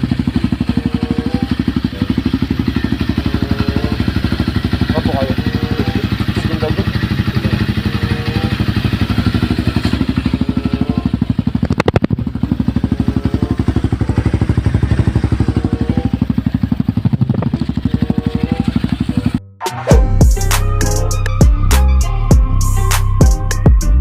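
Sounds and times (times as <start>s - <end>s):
motorcycle engine running at low revs: 0.0s - 24.0s.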